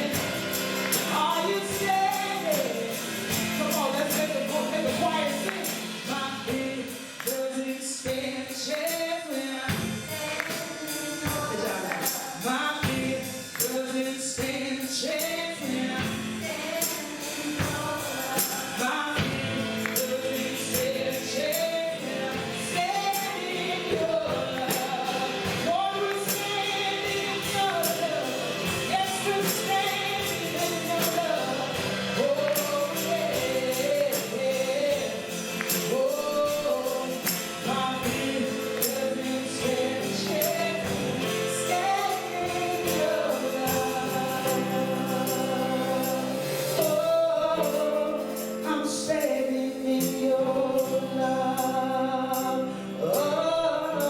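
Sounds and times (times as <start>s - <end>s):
group singing gospel song: 0.0s - 54.0s
tambourine beat: 0.0s - 54.0s.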